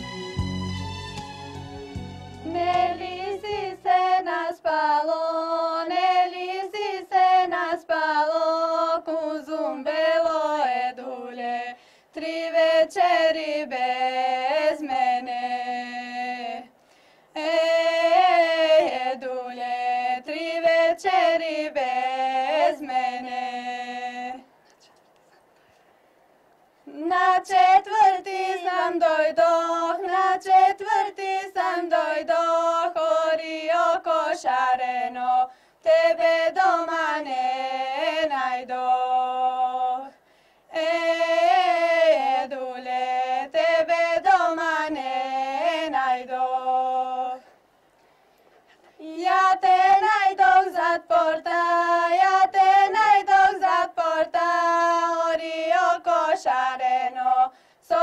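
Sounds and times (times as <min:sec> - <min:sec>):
woman singing folk song: 0:02.4 - 0:24.5, 0:26.9 - 0:47.6, 0:48.8 - 0:58.0.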